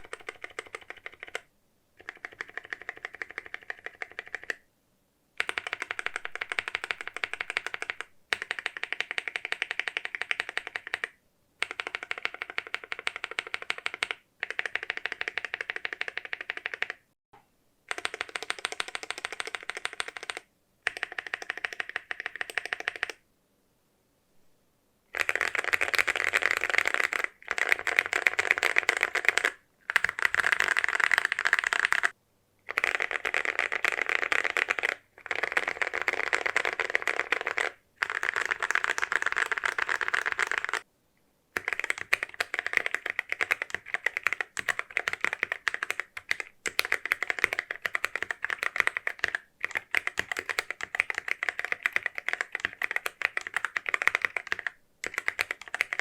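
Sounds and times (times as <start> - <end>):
fast typing on keyboard: 0.0 - 4.6, 5.4 - 17.1, 17.9 - 23.2, 25.1 - 40.9, 41.6 - 56.0.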